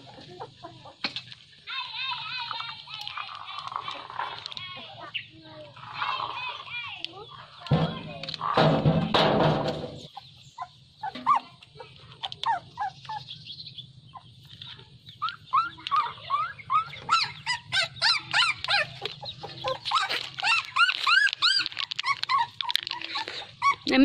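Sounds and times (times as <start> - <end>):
chickens chirping: 0.0 - 24.0.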